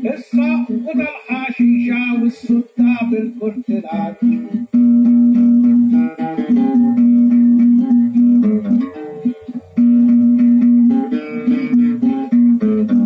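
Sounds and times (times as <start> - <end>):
acoustic guitars plucking: 0.0 - 13.0.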